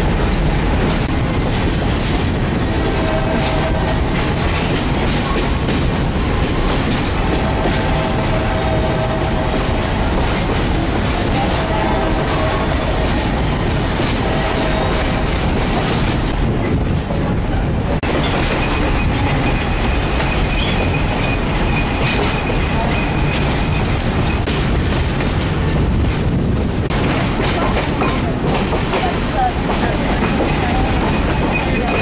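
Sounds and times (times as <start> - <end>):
train wheels running on rail: 0.0 - 32.0.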